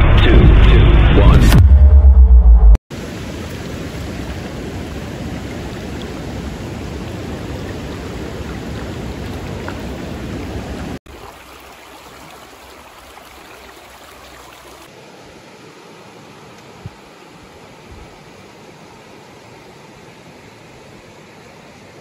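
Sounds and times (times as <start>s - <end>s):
creek water rushing: 2.9s - 22.0s.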